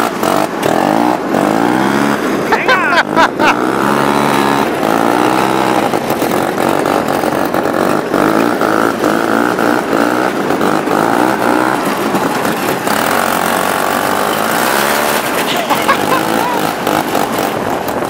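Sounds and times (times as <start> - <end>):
snowmobile engine running: 0.0 - 18.0.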